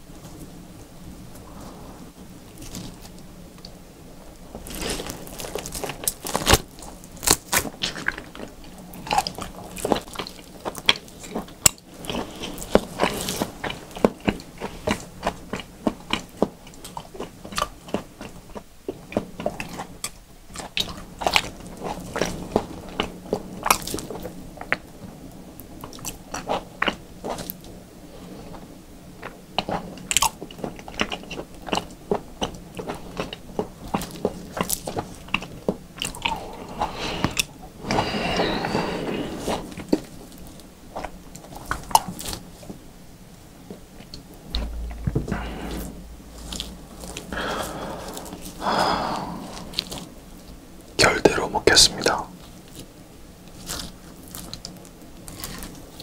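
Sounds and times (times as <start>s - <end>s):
chewing raw meat: 4.4s - 42.8s, 43.6s - 51.4s, 52.0s - 56.0s.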